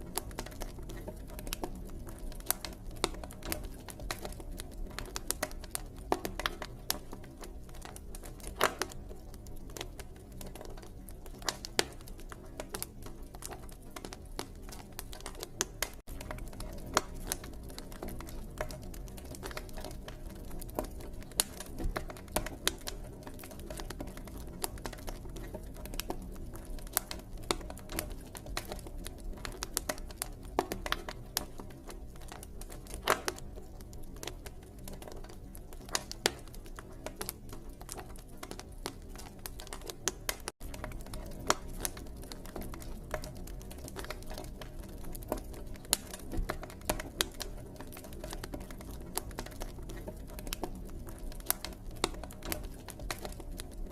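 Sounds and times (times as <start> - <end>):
campfire crackles and pops: 0.0 - 53.9
low rumble of flames: 0.0 - 53.9.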